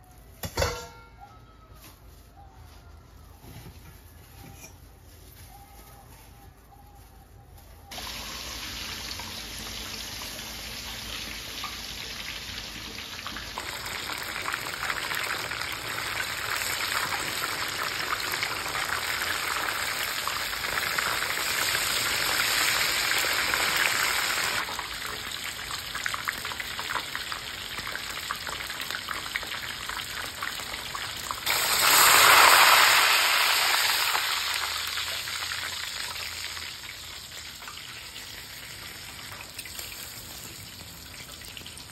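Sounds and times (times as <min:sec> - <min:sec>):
oil sizzling and crackling: 0:07.9 - 0:41.9.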